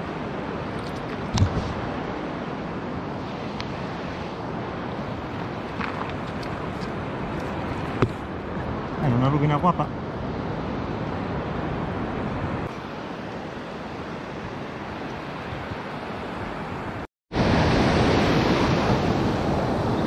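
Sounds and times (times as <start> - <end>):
surf washing up a beach: 0.0 - 20.0.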